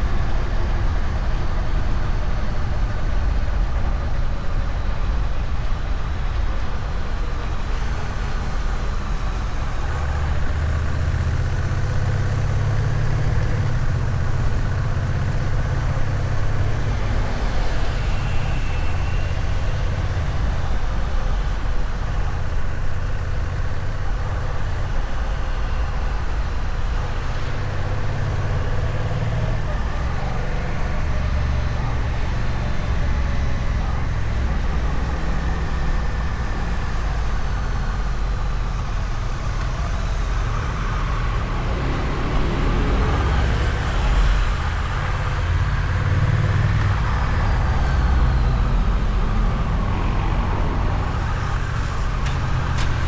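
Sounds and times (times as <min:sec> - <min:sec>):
road noise: 0:00.0 - 0:53.0
motorcycle engine running: 0:07.5 - 0:53.0.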